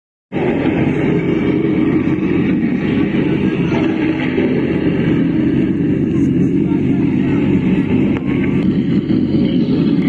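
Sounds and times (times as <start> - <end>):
bass-heavy noise from loudspeakers: 0.4 - 10.0.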